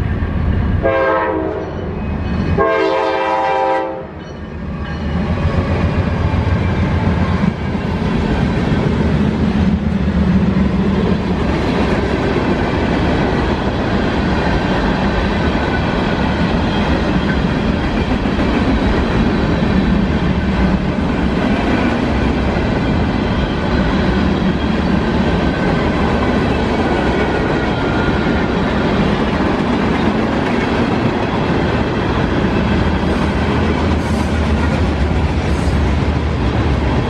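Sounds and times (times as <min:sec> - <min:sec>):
high ringing from train wheels: 0:00.0 - 0:36.0
freight train rumble and clatter: 0:00.0 - 0:37.0.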